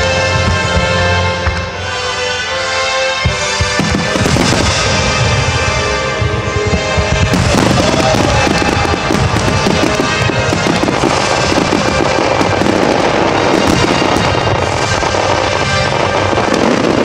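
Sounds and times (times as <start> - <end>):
music playing: 0.0 - 17.0
fireworks bursting: 3.3 - 17.0.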